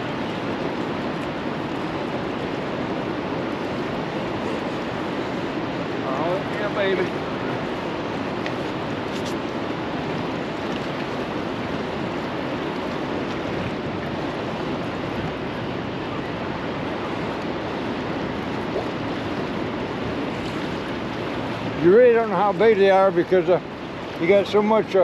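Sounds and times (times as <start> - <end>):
fast-flowing river water: 0.0 - 25.0
wind: 0.0 - 25.0.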